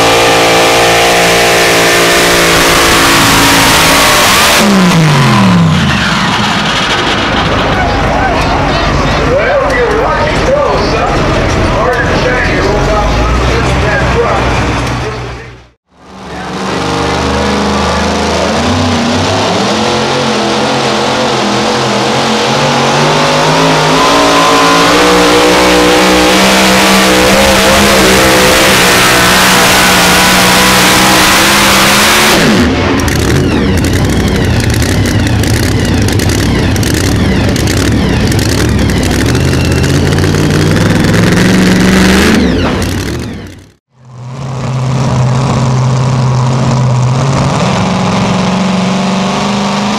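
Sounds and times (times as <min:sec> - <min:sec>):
engine crackling: 0:00.0 - 0:49.9
truck engine at full throttle: 0:00.0 - 0:49.9.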